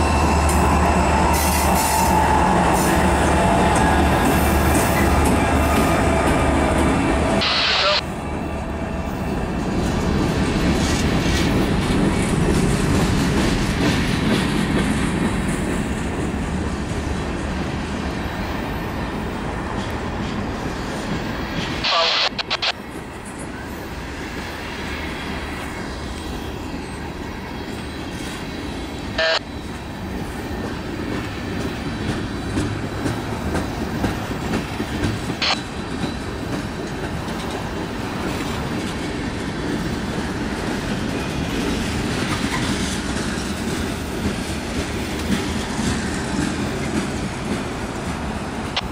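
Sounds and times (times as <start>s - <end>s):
diesel locomotive rumbling: 0.0s - 48.9s.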